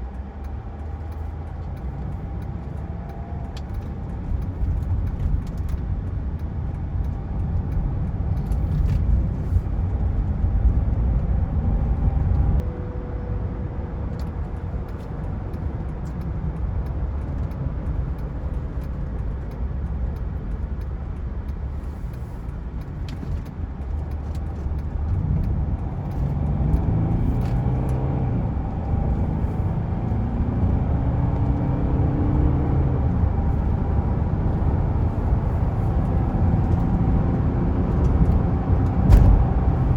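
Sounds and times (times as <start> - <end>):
diesel car engine accelerating: 0.0 - 39.9
road noise: 0.0 - 39.9.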